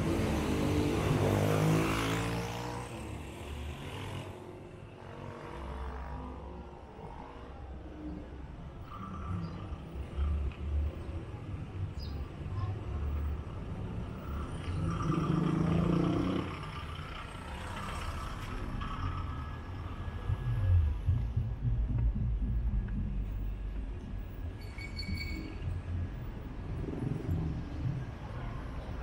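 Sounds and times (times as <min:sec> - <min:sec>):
rough low traffic rumble: 0:04.6 - 0:29.0.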